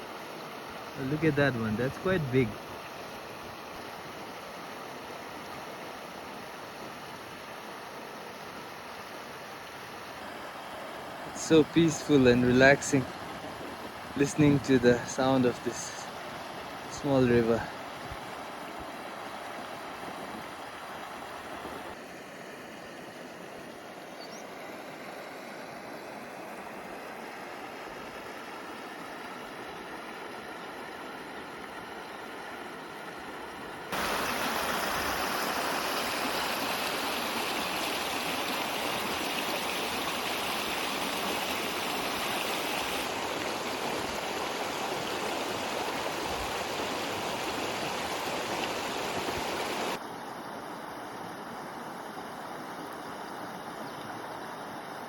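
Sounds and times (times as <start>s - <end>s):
stream running over stones: 0.0s - 22.1s, 27.0s - 55.0s.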